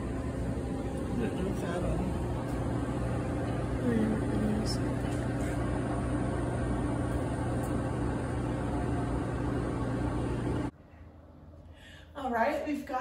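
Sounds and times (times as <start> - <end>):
freeze dryer humming: 0.0 - 13.0.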